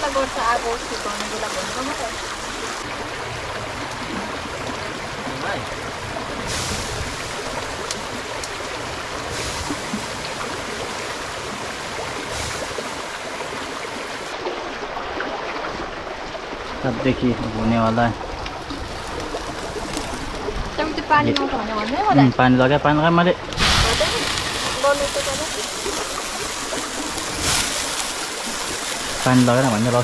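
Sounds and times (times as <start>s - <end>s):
stream babbling over stones: 0.0s - 30.0s.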